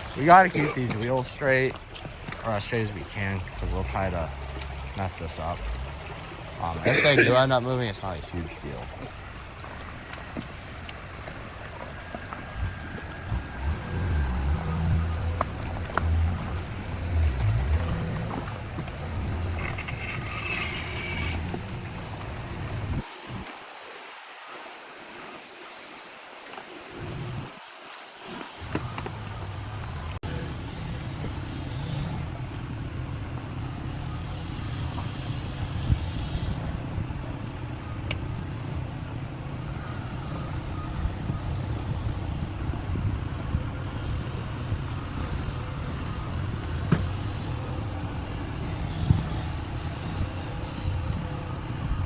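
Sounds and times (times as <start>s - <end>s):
vehicle engine rumbling: 0.0s - 23.4s, 28.6s - 52.0s.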